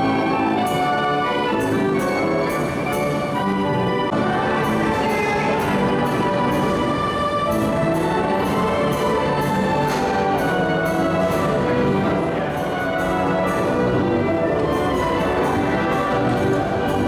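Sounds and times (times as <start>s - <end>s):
carousel band organ playing: 0.0s - 17.0s.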